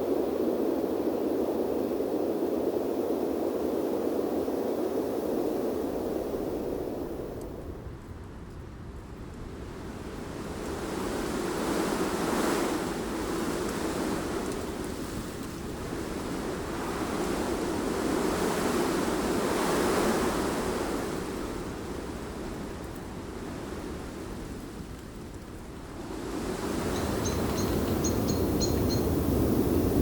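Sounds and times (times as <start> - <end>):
wind gusts rushing: 0.0 - 30.0.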